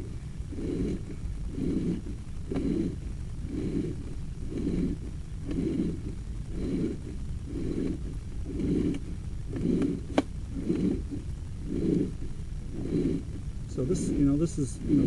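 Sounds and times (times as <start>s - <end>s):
cable rubbing in drain pipe: 0.0s - 12.2s.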